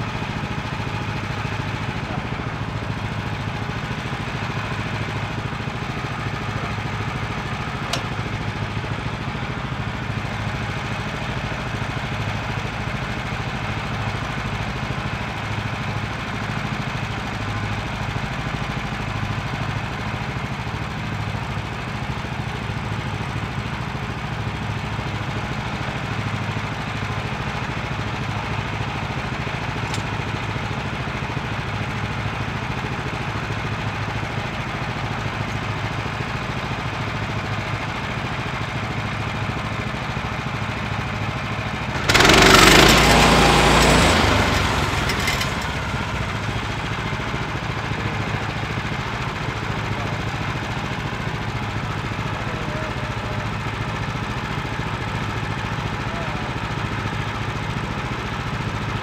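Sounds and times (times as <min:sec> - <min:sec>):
sawmill gas engine running: 0:00.0 - 0:59.0.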